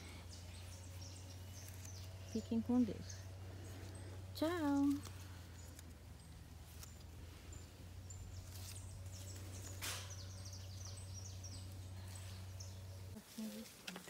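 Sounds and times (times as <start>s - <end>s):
steady low hum: 0.0s - 13.9s
small birds chirping: 0.0s - 14.0s.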